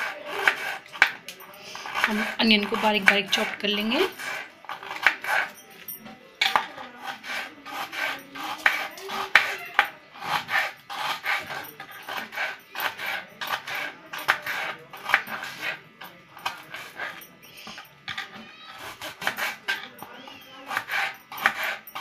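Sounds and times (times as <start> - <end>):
knife slicing onion on board: 0.0 - 5.6, 6.4 - 22.0.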